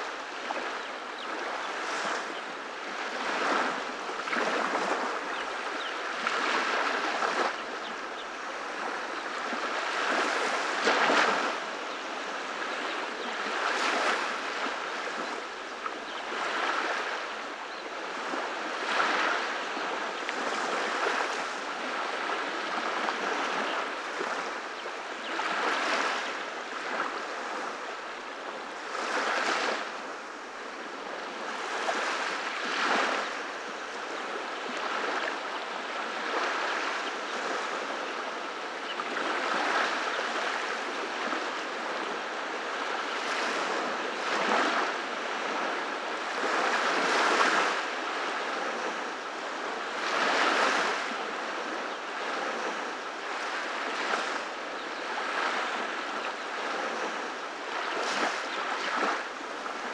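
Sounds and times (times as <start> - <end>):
small waves breaking on beach: 0.0 - 59.9.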